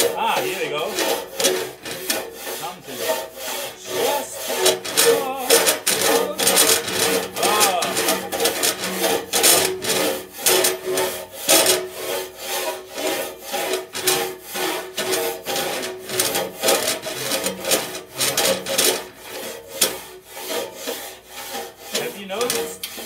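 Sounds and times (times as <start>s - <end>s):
rasp scraping inside metal pipe: 0.0s - 23.0s.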